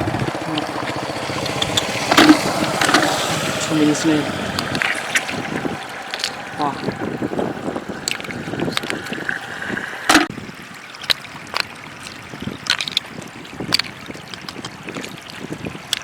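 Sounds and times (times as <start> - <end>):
shallow water trickling: 0.0 - 16.0.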